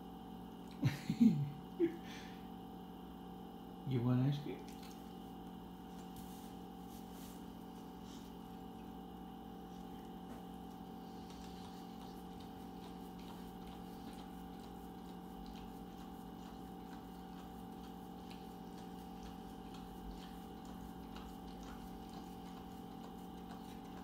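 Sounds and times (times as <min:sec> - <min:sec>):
steady low hum: 0:00.0 - 0:24.0
dog licking: 0:04.5 - 0:24.0.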